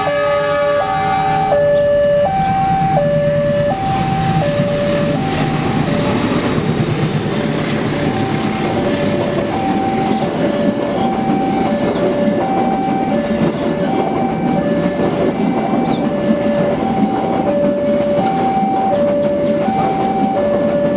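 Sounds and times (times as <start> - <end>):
level crossing alarm two tones: 0.0 - 6.7, 7.9 - 20.9
diesel train passing: 0.0 - 20.9.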